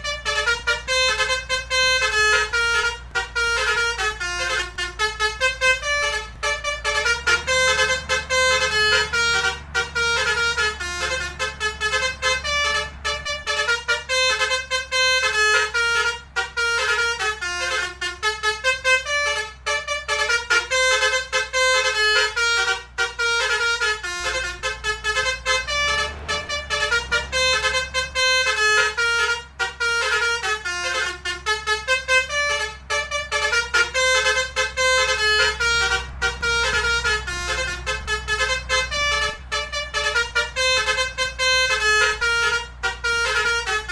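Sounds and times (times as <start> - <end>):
multi-tone bus horn melody: 0.0 - 43.9.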